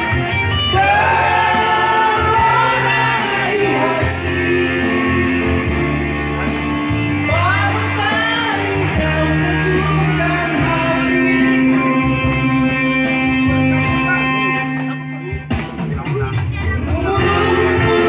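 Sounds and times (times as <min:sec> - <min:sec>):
bass guitar: 0:00.0 - 0:18.0
electric guitar: 0:00.0 - 0:18.0
person singing: 0:00.7 - 0:15.1, 0:16.2 - 0:18.0.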